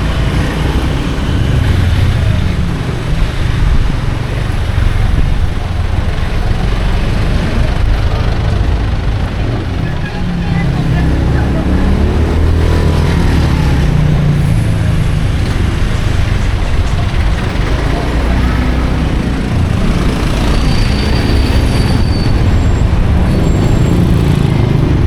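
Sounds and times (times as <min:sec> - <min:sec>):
motorcycle engine running: 0:00.0 - 0:25.0
road traffic: 0:00.0 - 0:25.0.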